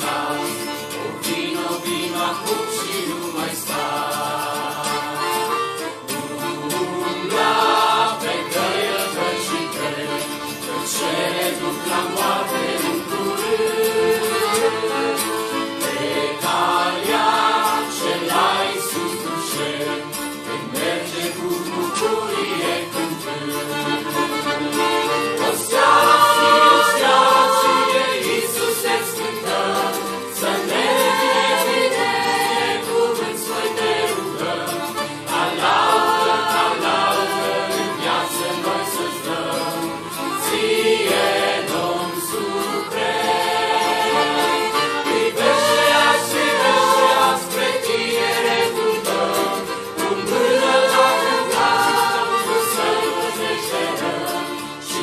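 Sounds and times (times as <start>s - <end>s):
accordions: 0.0s - 55.0s
choir singing a hymn: 0.0s - 55.0s
guitar: 0.0s - 55.0s.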